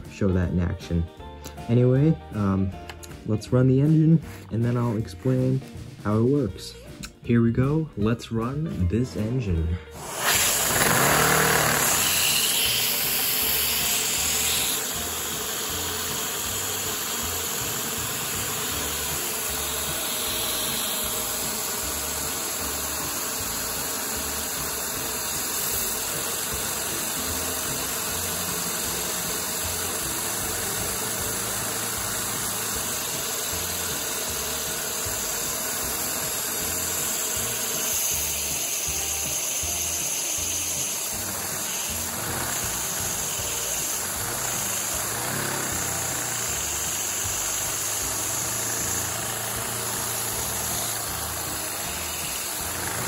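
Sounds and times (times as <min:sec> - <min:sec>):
vacuum cleaner suction hiss: 0:09.8 - 0:53.0
toy engine running: 0:10.0 - 0:53.0.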